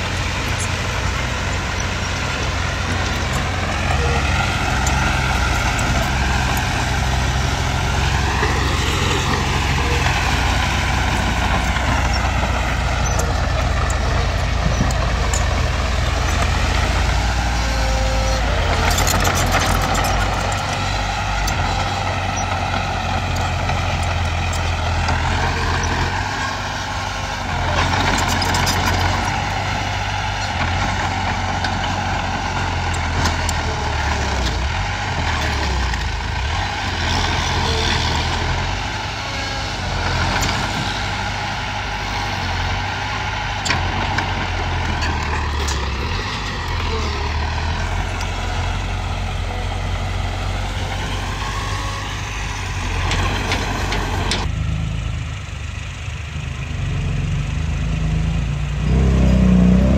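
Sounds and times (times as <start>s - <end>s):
bulldozer diesel engine: 0.0s - 59.9s.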